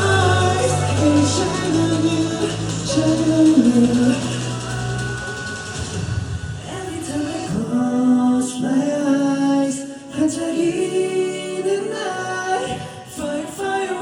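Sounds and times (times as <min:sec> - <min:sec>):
person singing: 0:00.0 - 0:05.9, 0:06.6 - 0:14.0
pop backing track: 0:00.0 - 0:14.0.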